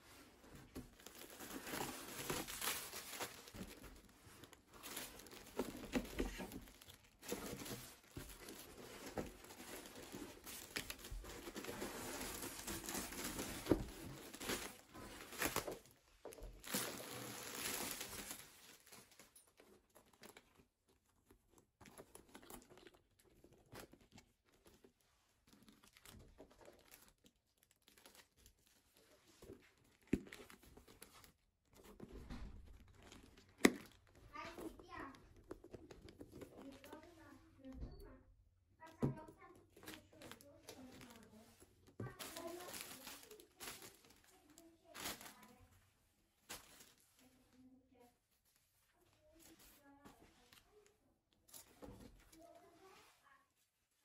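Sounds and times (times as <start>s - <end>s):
rustling and crinkling: 0.0s - 38.2s, 38.8s - 54.0s.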